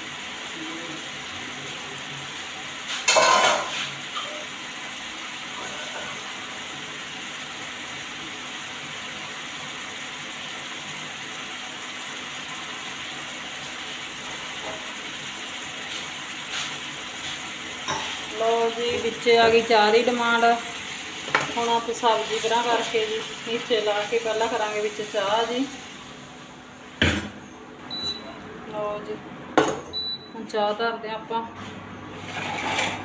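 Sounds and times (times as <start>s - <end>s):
vegetables sizzling in a pan: 0.0s - 27.5s.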